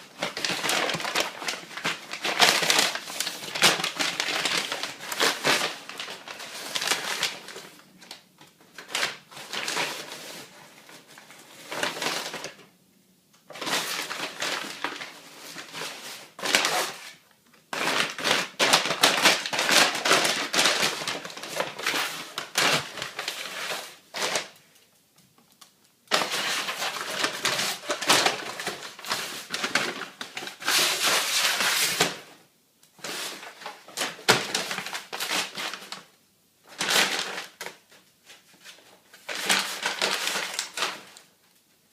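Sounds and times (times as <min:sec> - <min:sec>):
dog tearing a paper bag: 0:00.0 - 0:07.7, 0:08.8 - 0:10.5, 0:11.1 - 0:12.6, 0:13.5 - 0:24.6, 0:26.1 - 0:32.2, 0:33.0 - 0:36.0, 0:36.7 - 0:37.8, 0:39.1 - 0:41.2.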